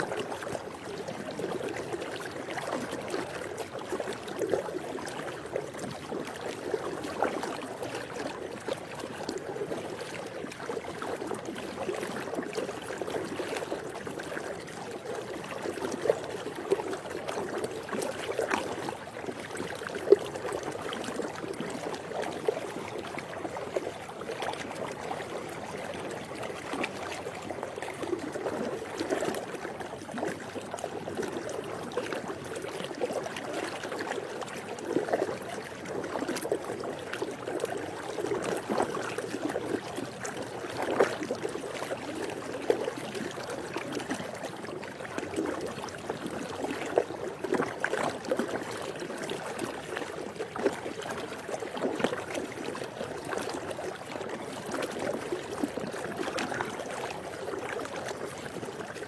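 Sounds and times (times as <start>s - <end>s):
pool water lapping: 0.0s - 59.0s
small water splashes: 0.0s - 59.0s.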